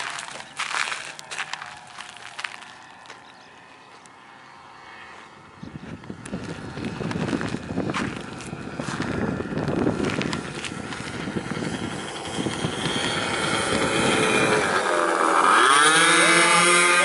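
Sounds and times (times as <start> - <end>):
model airplane engines buzzing: 0.0 - 17.0.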